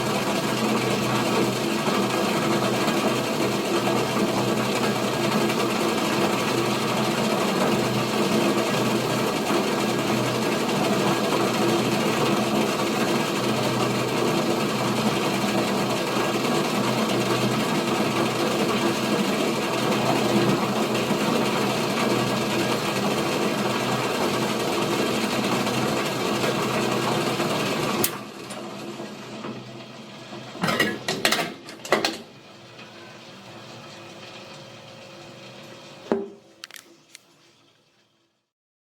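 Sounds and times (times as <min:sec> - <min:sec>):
water boiling: 0:00.0 - 0:38.5.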